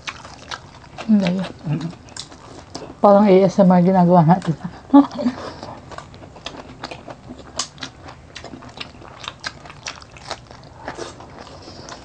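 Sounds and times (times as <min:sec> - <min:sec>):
chewing and lip-smacking: 0:00.0 - 0:03.0, 0:04.4 - 0:12.0.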